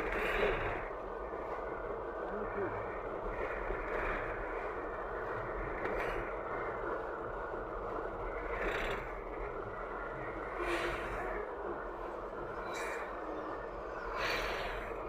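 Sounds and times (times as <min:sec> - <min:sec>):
vehicle road noise: 0:00.0 - 0:15.0.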